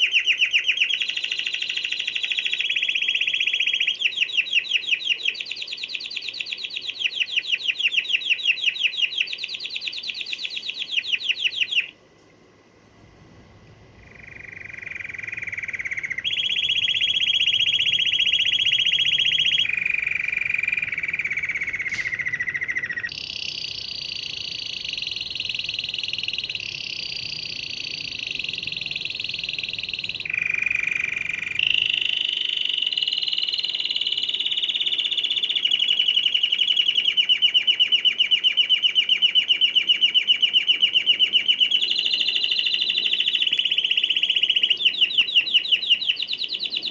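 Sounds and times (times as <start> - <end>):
canary singing: 0.0 - 12.0, 13.0 - 46.9.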